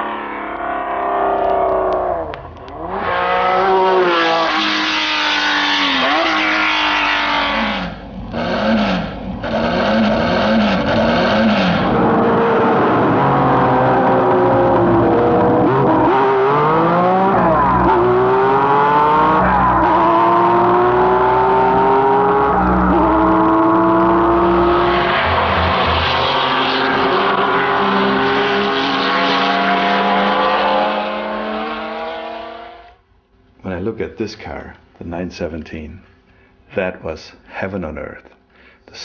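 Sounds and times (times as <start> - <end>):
racing car engine revving: 0.0 - 33.0.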